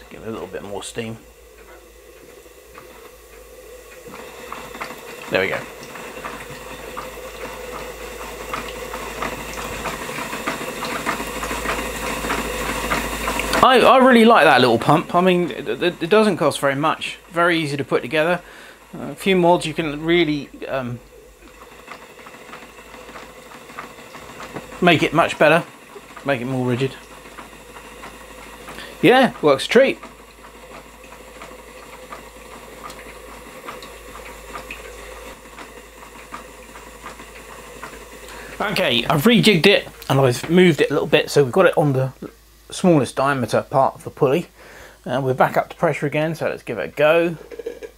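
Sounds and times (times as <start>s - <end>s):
steam engine hissing and clicking: 0.0s - 47.9s.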